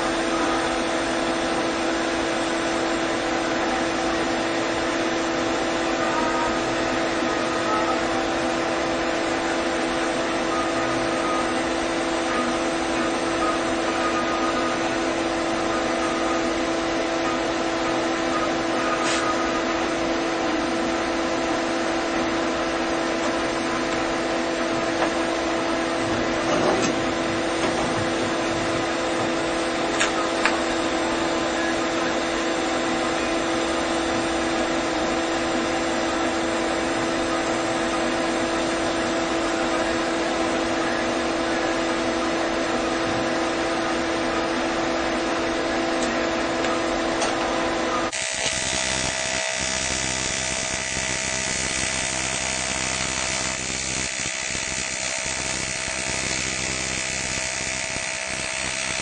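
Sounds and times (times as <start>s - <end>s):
machine hum with tones: 0.0s - 59.0s.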